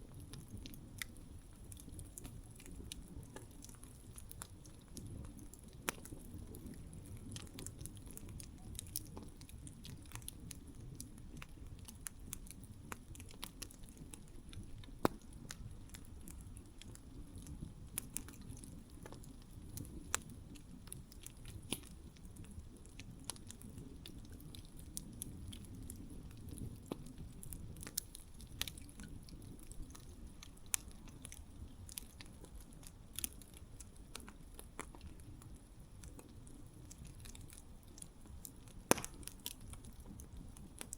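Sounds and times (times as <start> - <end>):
burning wood crackling: 0.0 - 40.9
campfire flames rumbling: 0.0 - 40.9.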